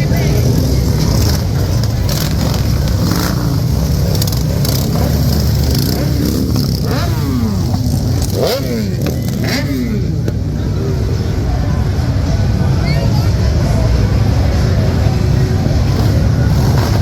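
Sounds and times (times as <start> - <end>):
motorcycle engine revving: 0.0 - 17.0
motorcycle engines rumbling: 0.0 - 17.0.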